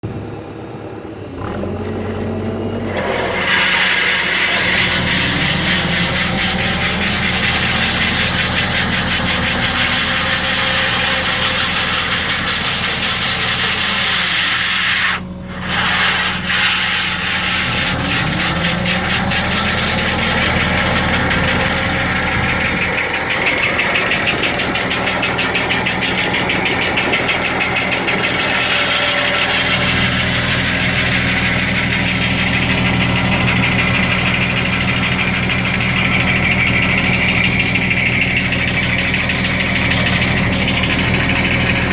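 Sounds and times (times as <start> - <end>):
excavator engine under load: 0.0 - 41.9
rock saw cutting into rock: 2.8 - 41.9.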